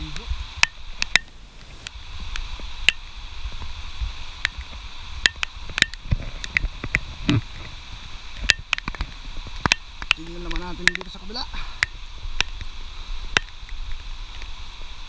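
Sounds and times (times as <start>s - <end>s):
raindrops tapping on camera: 0.0s - 12.7s
rain falling: 0.0s - 15.0s.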